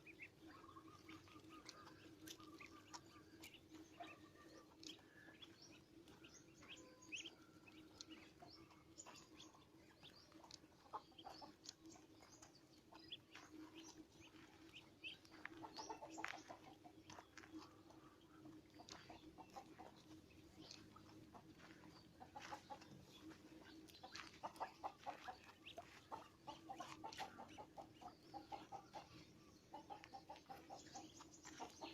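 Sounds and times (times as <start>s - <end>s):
small birds chirping: 0.0s - 31.9s
steady low hum: 0.0s - 31.9s.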